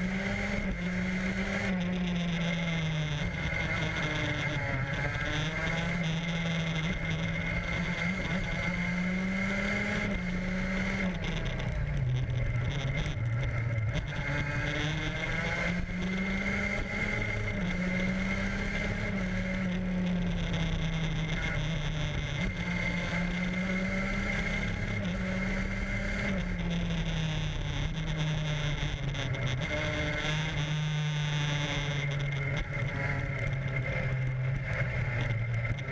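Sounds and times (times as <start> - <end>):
race car engine revving: 0.0 - 35.9.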